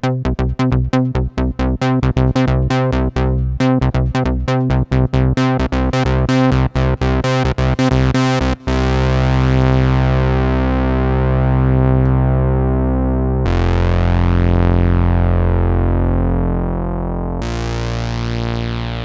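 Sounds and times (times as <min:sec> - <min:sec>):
analog synthesizer notes: 0:00.0 - 0:19.0.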